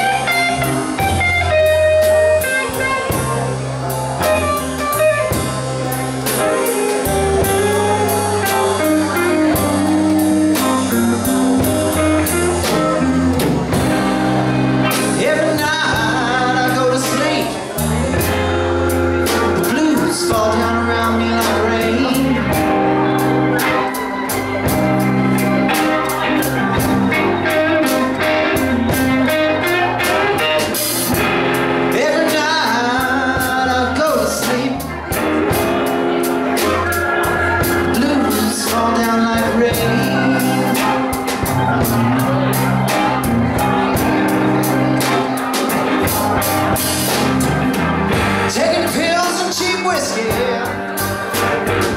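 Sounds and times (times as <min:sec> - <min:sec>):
live blues rock band: 0:00.0 - 0:51.9
steady drum beat: 0:00.0 - 0:51.9.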